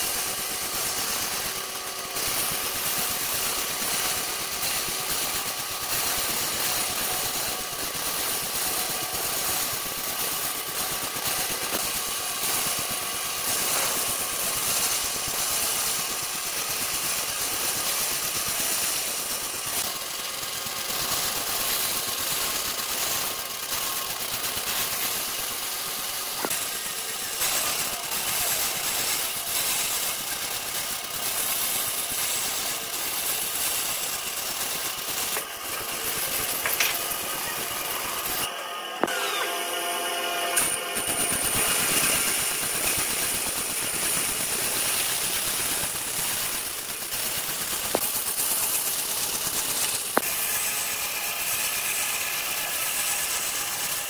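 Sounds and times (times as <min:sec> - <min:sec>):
bright hiss: 0:00.0 - 0:39.5, 0:40.5 - 0:54.0
woodworking machinery running: 0:00.0 - 0:54.0.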